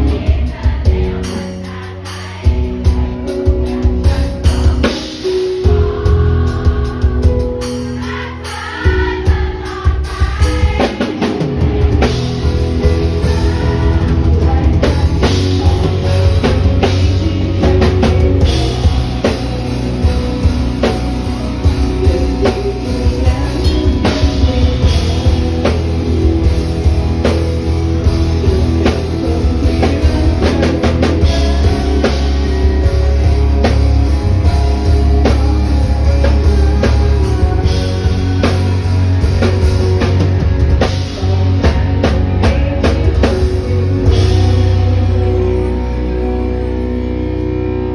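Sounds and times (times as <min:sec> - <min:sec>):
person singing: 0:00.0 - 0:47.5
live rock band playing: 0:00.0 - 0:47.9.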